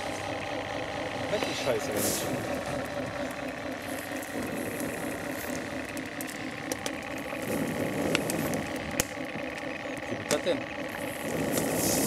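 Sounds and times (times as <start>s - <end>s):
steady mechanical hum: 0.0s - 12.0s
fire crackling and popping: 1.2s - 12.0s.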